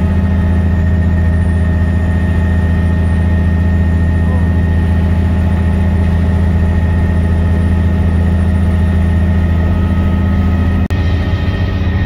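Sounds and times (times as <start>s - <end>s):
helicopter rotor and turbine drone: 0.0s - 12.0s
thin steady whine: 0.0s - 12.0s.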